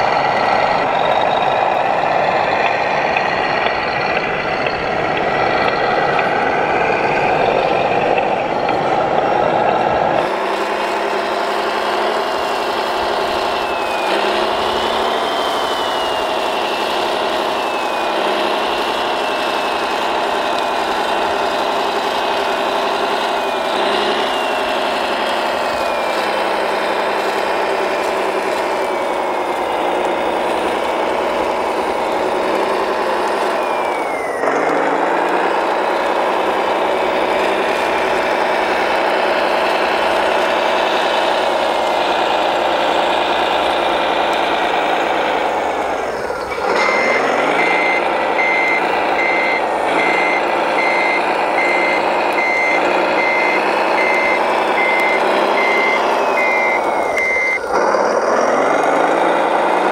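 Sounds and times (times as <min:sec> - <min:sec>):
motor whine rising and falling: 0:00.0 - 0:59.9
rc machine engine hum: 0:00.0 - 0:59.9.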